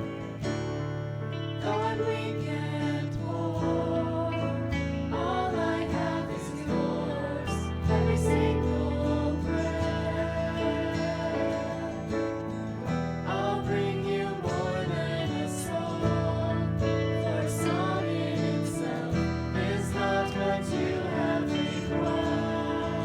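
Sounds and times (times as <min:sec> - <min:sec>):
guitar with sustained chords: 0:00.0 - 0:23.0.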